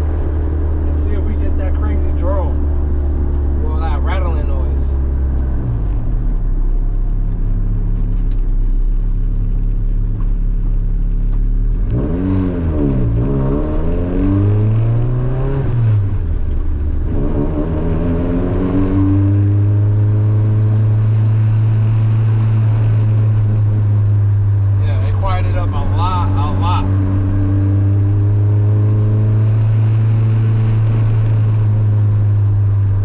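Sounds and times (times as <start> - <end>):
car engine running inside cabin: 0.0 - 33.0.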